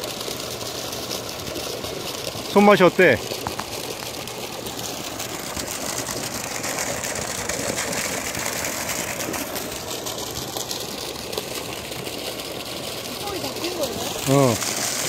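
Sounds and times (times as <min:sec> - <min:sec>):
aerator mechanical hum: 0:00.0 - 0:15.0
water churning: 0:00.0 - 0:15.0.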